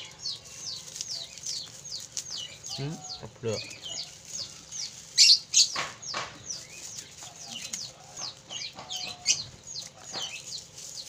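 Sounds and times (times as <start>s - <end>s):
lovebirds chirping: 0.0s - 11.0s
scissors snipping dry stalks: 0.2s - 11.0s.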